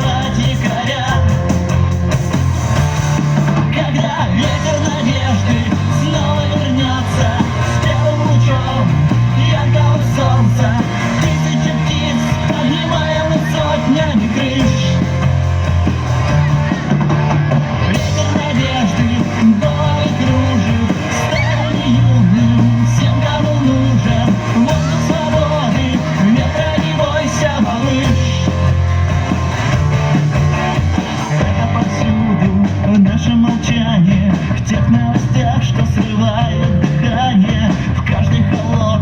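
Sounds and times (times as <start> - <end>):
electric guitar: 0.0 - 39.0
rock band playing live: 0.0 - 39.0.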